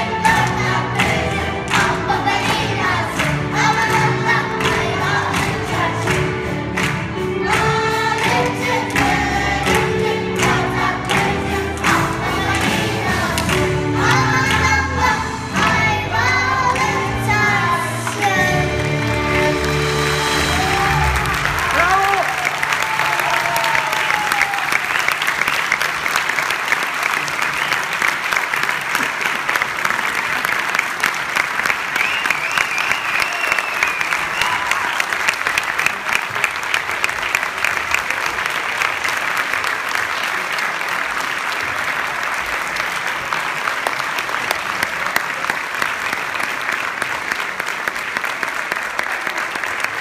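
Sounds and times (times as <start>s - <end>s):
audience applauding: 0.0s - 15.1s, 16.2s - 50.0s.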